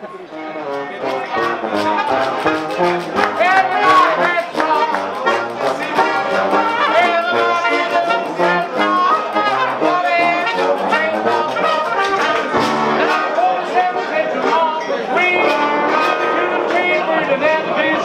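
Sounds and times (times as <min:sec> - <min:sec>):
button accordion: 0:00.0 - 0:17.3
trumpet: 0:00.0 - 0:17.8
trombone: 0:00.1 - 0:17.3.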